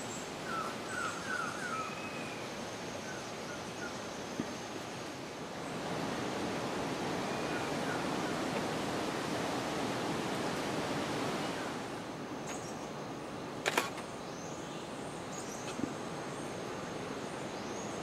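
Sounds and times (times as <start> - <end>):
rushing outdoor noise: 0.0 - 18.0.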